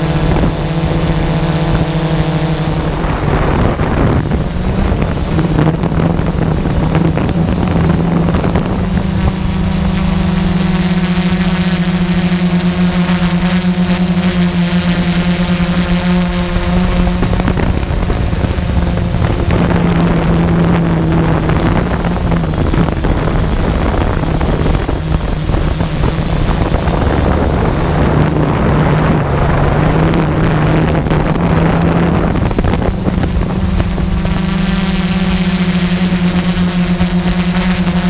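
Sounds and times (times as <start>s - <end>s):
drone rotors humming: 0.0s - 38.0s
wind noise on microphone: 0.0s - 38.0s.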